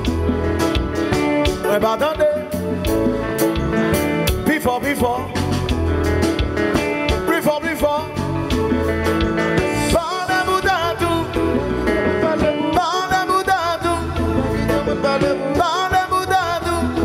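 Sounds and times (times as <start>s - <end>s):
bass guitar: 0.0s - 17.0s
drums: 0.0s - 17.0s
electric guitar: 0.0s - 17.0s.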